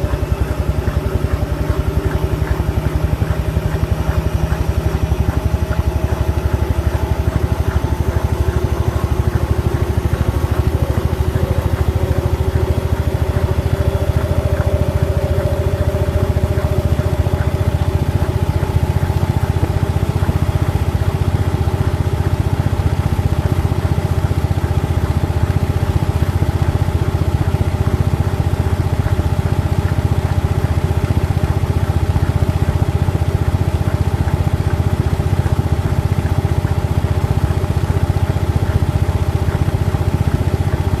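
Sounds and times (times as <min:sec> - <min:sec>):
washing machine spinning: 0:00.0 - 0:41.0.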